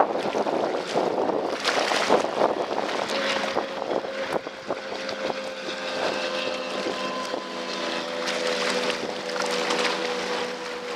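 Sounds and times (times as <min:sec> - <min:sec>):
choppy water: 0:00.0 - 0:10.9
motorboat engine running: 0:00.0 - 0:10.9
wind gusting on microphone: 0:00.0 - 0:10.9.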